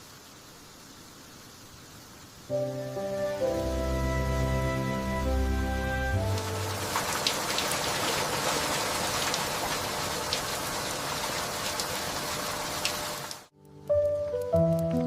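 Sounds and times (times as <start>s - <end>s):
heavy rain falling: 0.0s - 13.5s.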